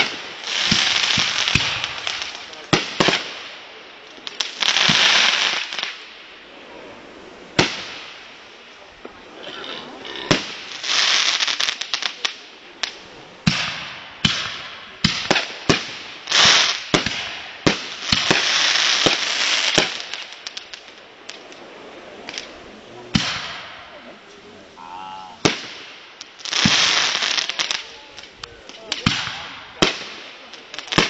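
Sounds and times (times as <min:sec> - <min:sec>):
fireworks bangs: 0:00.0 - 0:24.6, 0:25.2 - 0:31.0
fireworks hissing and crackling: 0:00.0 - 0:31.0.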